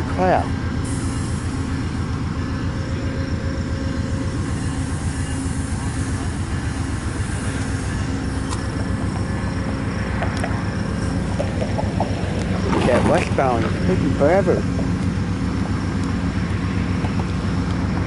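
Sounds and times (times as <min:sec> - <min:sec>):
diesel locomotive running: 0:00.0 - 0:18.0.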